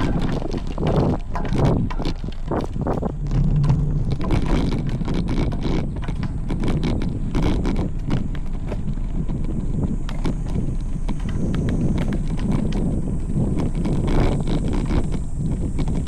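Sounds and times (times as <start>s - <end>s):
sharp knocks and rattles: 0.0s - 16.0s
steady low rumble: 0.0s - 16.0s
wind buffeting microphone: 0.0s - 16.0s.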